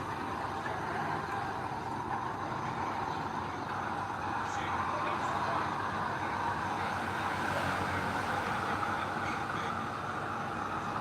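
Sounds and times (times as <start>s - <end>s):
heavy machine engine rumbling: 0.0s - 11.0s.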